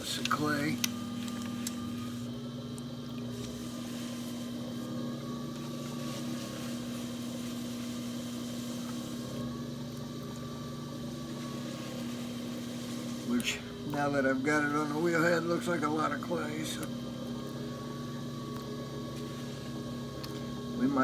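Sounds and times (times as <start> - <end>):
potter's wheel motor humming: 0.0 - 21.0.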